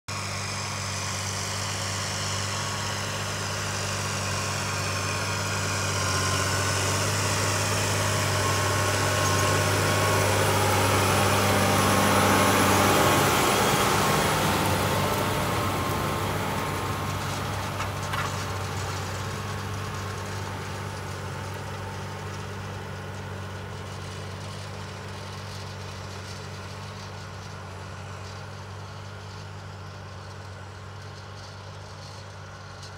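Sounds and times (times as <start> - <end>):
tractor diesel engine under load: 0.0 - 32.9
harrow discs rattling through soil: 0.1 - 32.9.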